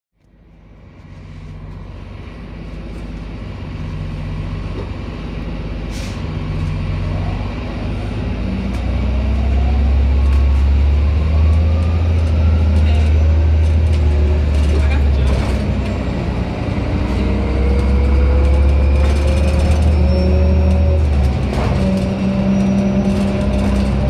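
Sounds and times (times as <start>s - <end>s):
bus engine hum: 0.2s - 24.0s.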